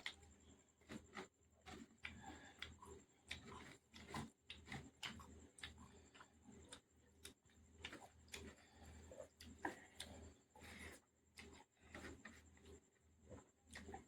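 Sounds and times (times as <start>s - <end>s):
person chewing: 0.8s - 14.0s.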